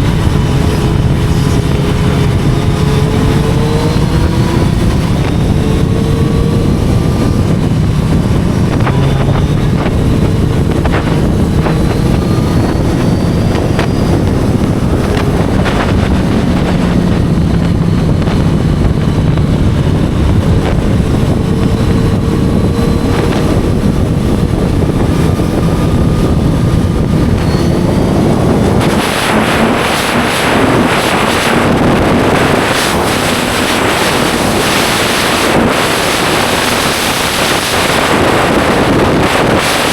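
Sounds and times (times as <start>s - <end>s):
motorcycle engine revving through gears: 0.0s - 39.9s
wind buffeting on microphone: 0.0s - 39.9s.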